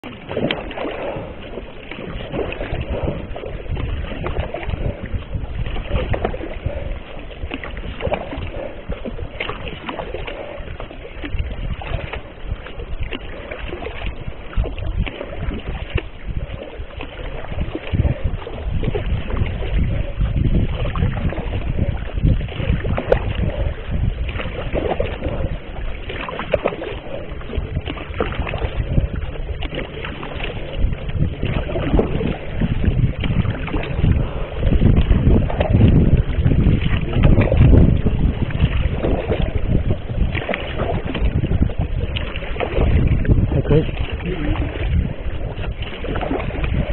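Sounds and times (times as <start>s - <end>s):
paddle strokes splashing in water: 0.0s - 46.9s
water washing along hull: 0.0s - 46.9s
wind rumble on microphone: 0.0s - 46.9s.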